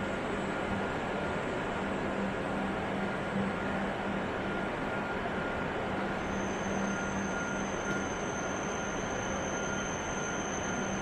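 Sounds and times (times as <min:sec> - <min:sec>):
train running noise: 0:00.0 - 0:11.0
thin high whine: 0:00.1 - 0:11.0.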